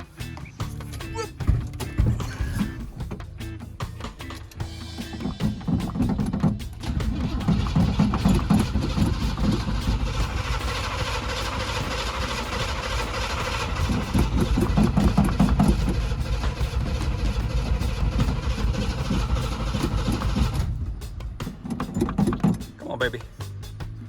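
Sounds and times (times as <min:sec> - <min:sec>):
engine cranking to start: 0:00.0 - 0:23.1.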